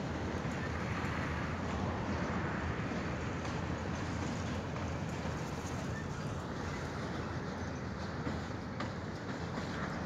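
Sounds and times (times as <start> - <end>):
freight train wheels rumbling on rail: 0.0 - 10.0.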